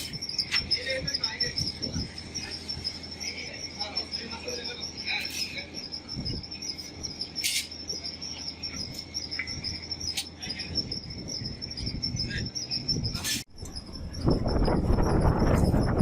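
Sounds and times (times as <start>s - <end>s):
low workshop rumble: 0.0s - 16.0s
pulsed high chirping: 0.0s - 16.0s.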